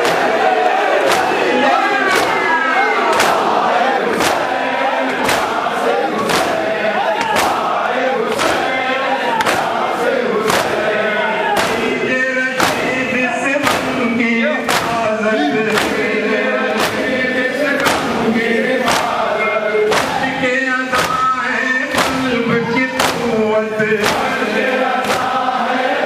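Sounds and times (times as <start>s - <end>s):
chest beating slaps: 0.0s - 25.5s
men chanting in unison: 0.0s - 26.0s.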